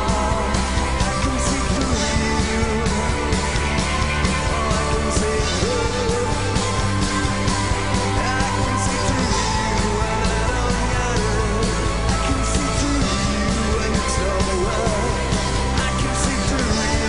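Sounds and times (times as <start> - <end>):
person singing: 0.0 - 17.0
rock band playing: 0.0 - 17.0.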